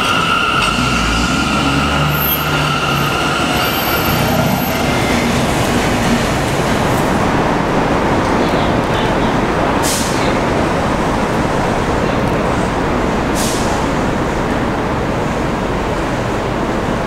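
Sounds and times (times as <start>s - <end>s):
train rumbling on elevated tracks: 0.0s - 17.0s.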